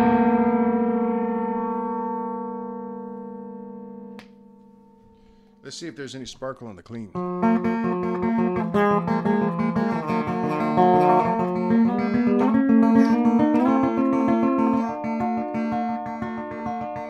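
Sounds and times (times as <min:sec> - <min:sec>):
clean electric guitar picking: 0:00.0 - 0:05.6, 0:07.1 - 0:17.0.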